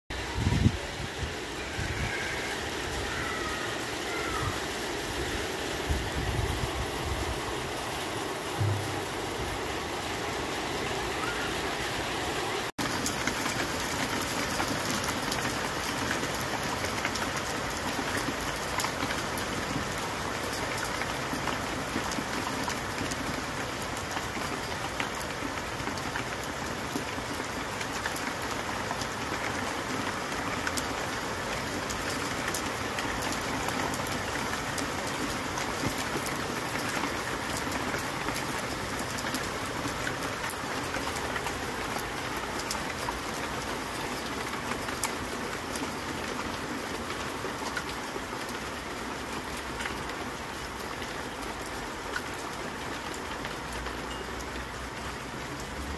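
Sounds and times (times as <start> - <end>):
heavy rain on grass and trees: 0.1 - 55.9.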